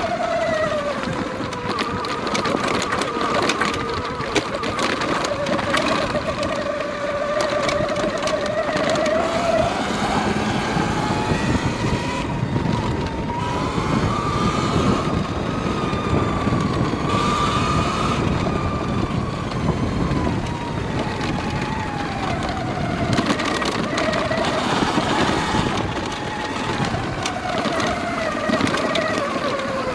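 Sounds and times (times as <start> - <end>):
electric bike drivetrain whining: 0.0 - 29.9
tyres rumbling on rough trail: 0.0 - 29.9
wind buffeting microphone: 0.0 - 29.9.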